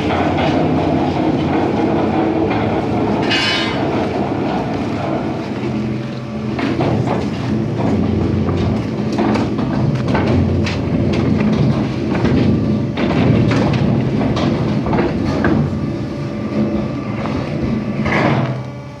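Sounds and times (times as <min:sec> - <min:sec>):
machine engine running: 0:00.0 - 0:19.0.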